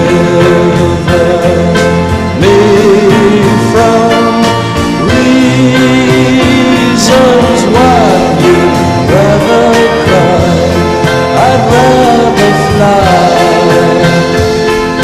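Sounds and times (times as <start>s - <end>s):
song with band backing: 0.0s - 15.0s.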